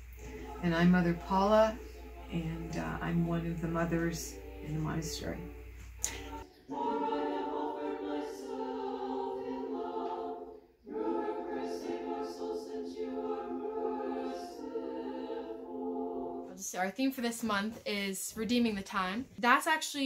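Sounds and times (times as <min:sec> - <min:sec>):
women chanting in harmony: 0:00.0 - 0:16.6.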